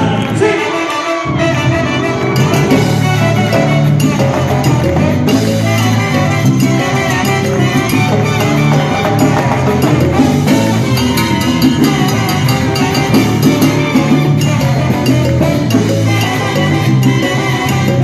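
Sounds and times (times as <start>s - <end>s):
live salsa band playing: 0.0s - 18.0s.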